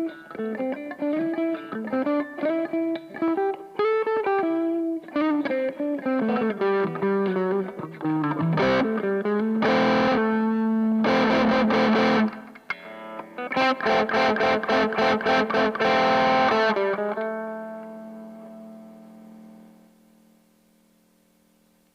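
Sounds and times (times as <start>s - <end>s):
overdriven electric guitar: 0.0s - 20.5s.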